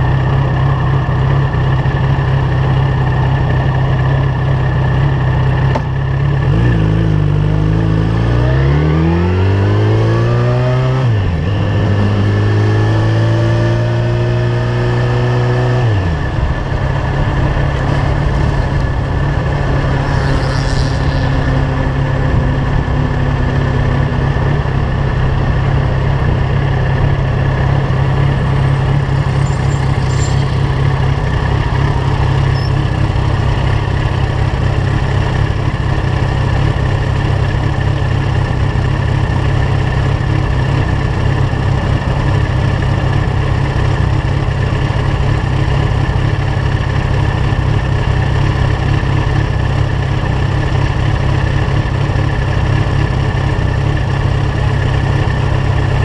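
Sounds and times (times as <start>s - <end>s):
motorcycle engine idling: 0.0s - 6.5s, 15.9s - 56.0s.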